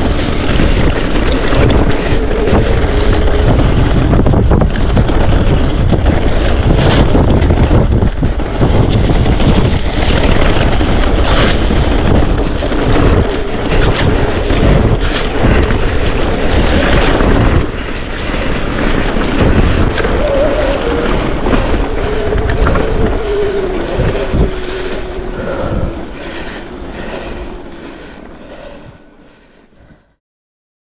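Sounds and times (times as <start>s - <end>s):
wind buffeting microphone: 0.0s - 30.1s
mountain bike rumbling and rattling: 0.0s - 30.2s.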